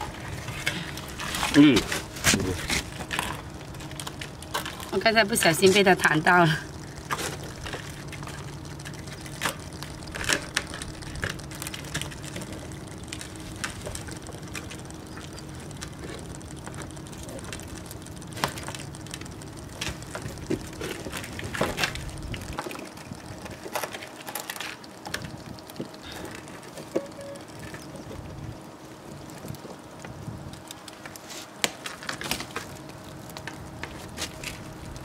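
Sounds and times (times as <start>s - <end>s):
clicks and rustles of mesh: 0.0s - 35.0s
low steady hum: 0.0s - 35.0s.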